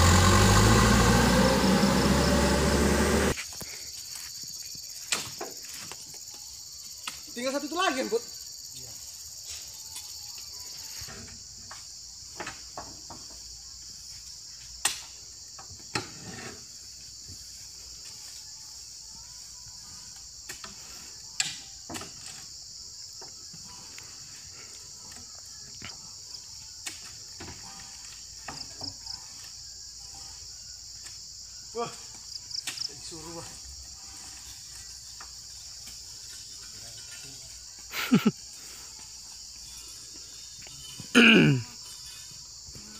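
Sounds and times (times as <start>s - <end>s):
high-pitched insect drone: 0.0s - 15.9s, 16.5s - 42.9s.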